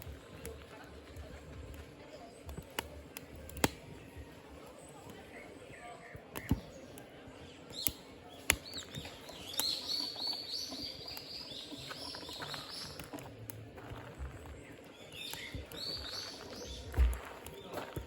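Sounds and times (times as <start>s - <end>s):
birds chirping: 0.0s - 18.0s
firewood crackling and popping: 0.0s - 18.0s.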